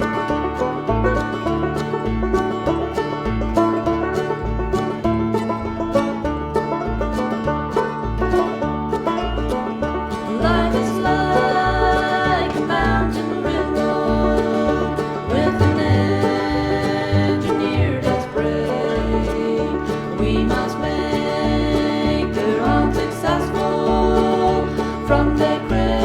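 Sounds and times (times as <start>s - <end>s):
alternating bass: 0.0s - 26.0s
plucked strings: 0.0s - 26.0s
sliding melody line: 0.0s - 26.0s.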